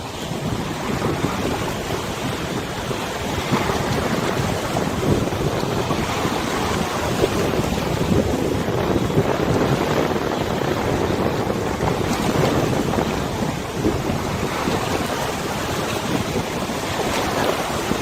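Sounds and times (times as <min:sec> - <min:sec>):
river water rushing and lapping: 0:00.0 - 0:18.0
wind buffeting microphone: 0:00.0 - 0:18.0.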